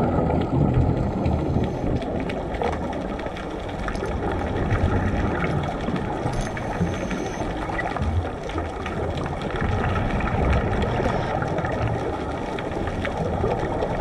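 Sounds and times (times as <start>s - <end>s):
faint crackles: 0.0s - 14.0s
underwater rumble and hiss: 0.0s - 14.0s.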